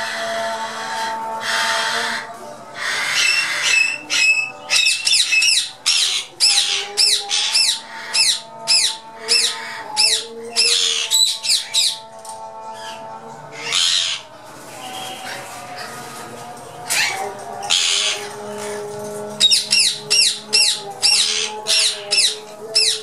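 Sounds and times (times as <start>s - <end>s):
parakeets screeching: 0.0s - 23.0s.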